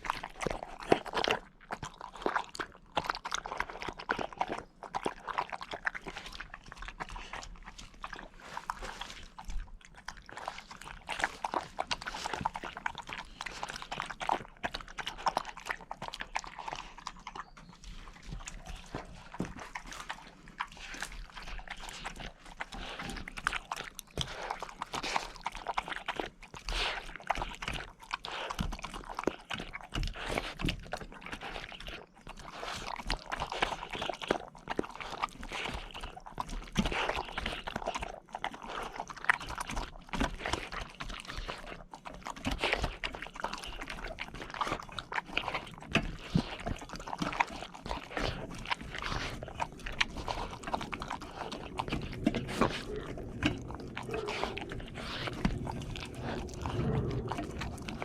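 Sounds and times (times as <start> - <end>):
puppy crunching things: 0.0 - 58.0.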